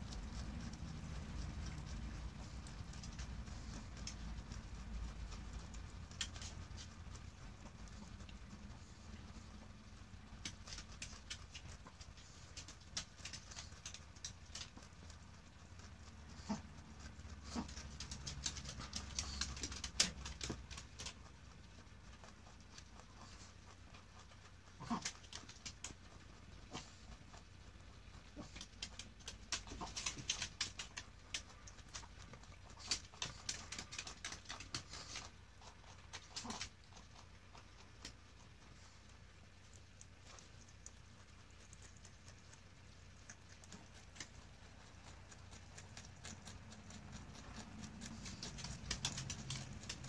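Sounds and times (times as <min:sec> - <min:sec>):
rabbit chewing parsley: 0:00.0 - 0:50.0.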